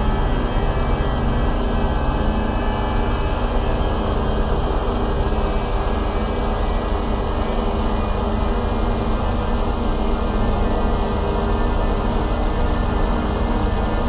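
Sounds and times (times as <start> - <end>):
dark ambient drone: 0.0 - 14.0.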